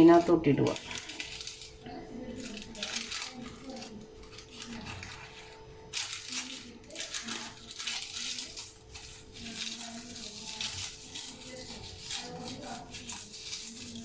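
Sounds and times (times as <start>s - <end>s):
baking paper crinkling: 0.0s - 14.0s.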